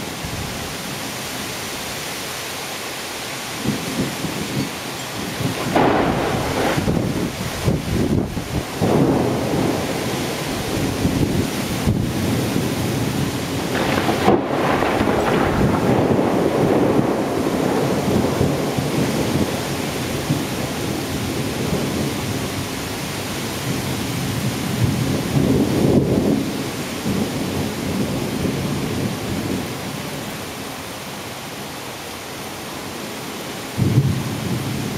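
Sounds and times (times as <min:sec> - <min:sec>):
heavy rain pouring: 0:00.0 - 0:34.9
thunder rumbling: 0:03.6 - 0:30.6, 0:33.8 - 0:34.9.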